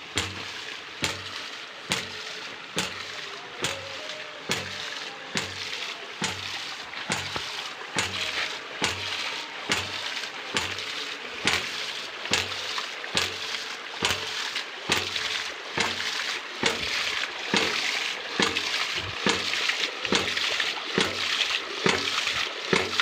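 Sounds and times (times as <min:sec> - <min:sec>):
water gushing and splashing: 0:00.0 - 0:23.0
pump valve knocking: 0:00.1 - 0:23.0.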